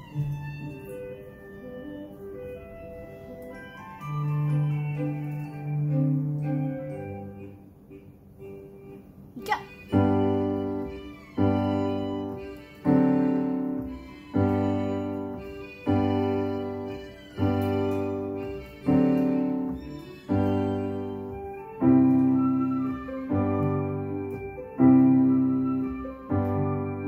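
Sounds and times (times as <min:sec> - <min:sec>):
piano chords on keyboard: 0:00.0 - 0:27.0.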